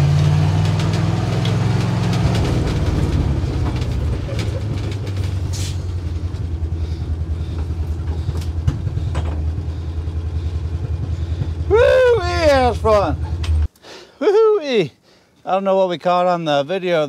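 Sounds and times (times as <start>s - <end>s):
truck engine idling: 0.0s - 13.7s.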